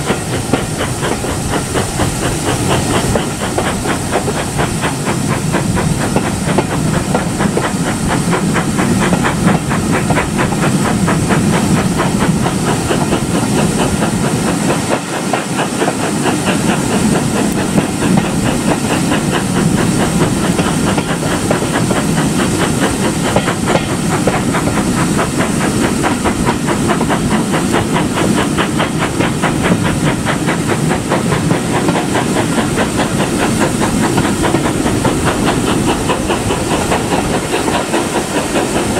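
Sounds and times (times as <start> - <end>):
steam locomotive hissing and chugging: 0.0 - 38.9.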